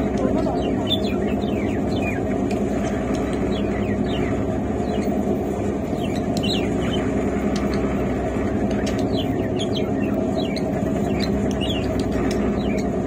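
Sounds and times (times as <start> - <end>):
parrots chirping: 0.0 - 13.0
train rumbling: 0.0 - 13.0.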